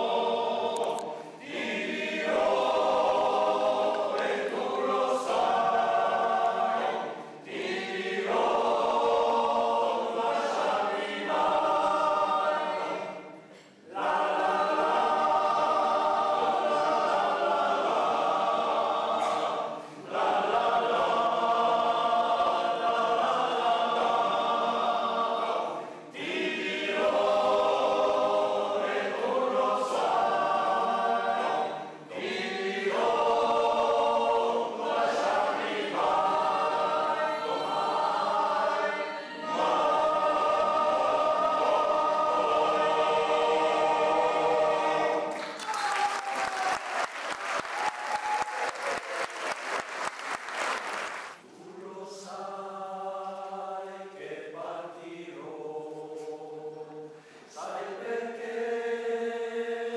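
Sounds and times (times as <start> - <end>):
choir singing held chords: 0.0 - 45.6, 51.3 - 59.9.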